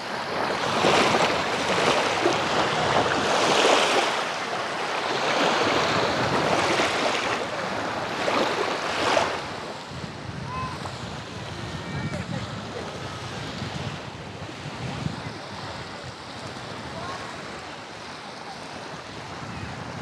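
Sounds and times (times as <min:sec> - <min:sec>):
small waves lapping on shore: 0:00.0 - 0:20.0.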